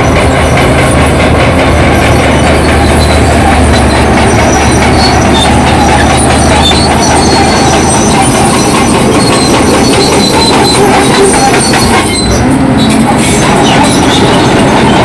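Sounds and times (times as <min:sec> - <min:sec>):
diesel engine under load: 0:00.0 - 0:15.0
steel tracks clanking: 0:00.0 - 0:15.0.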